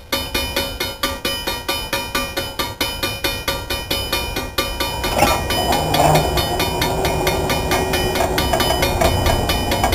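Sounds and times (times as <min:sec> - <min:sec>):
crossing warning bell ringing: 0:00.0 - 0:09.9.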